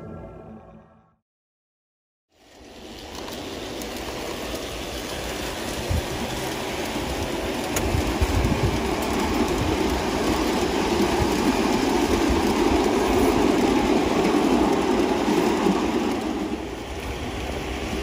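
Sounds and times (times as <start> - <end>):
model train wheels rumbling on rail: 2.3 - 18.0.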